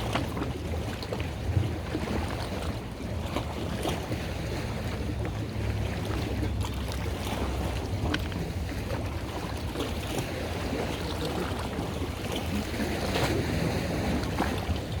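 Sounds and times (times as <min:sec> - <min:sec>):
faint splashes: 0:00.0 - 0:15.0
rumble of water and boat: 0:00.0 - 0:15.0.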